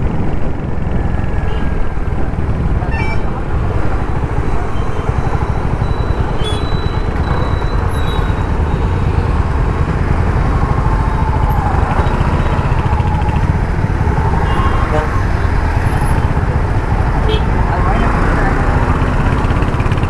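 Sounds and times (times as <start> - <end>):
motorcycle engine running: 0.0 - 20.0
road and traffic noise: 0.0 - 20.0.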